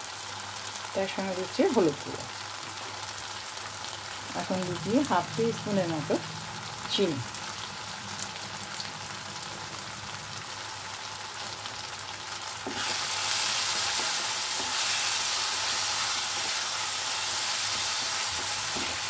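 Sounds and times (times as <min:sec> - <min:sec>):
masala sizzling in oil: 0:00.0 - 0:19.0.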